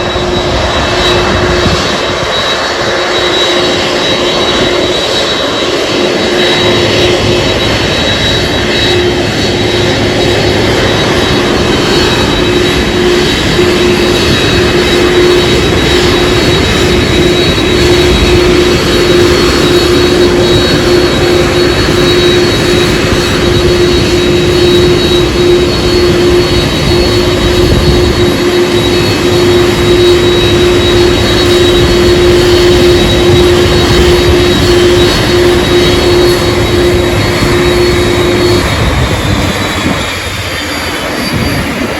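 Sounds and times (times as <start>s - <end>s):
aircraft engines running: 0.0s - 41.9s.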